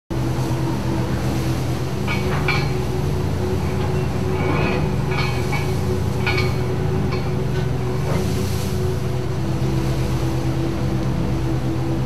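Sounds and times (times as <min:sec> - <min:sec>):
diesel engine drone: 0:00.1 - 0:12.0.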